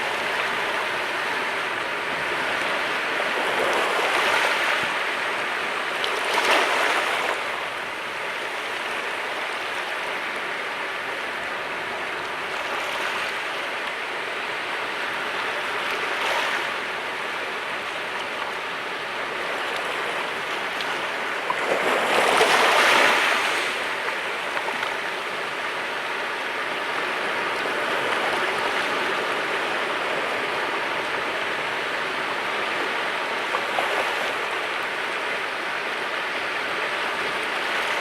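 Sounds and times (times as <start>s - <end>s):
sea waves washing on shore: 0.0s - 38.0s.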